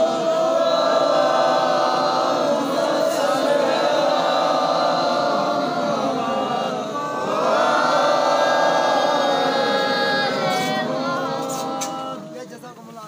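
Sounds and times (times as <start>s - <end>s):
men chanting a prayer: 0.0s - 13.0s.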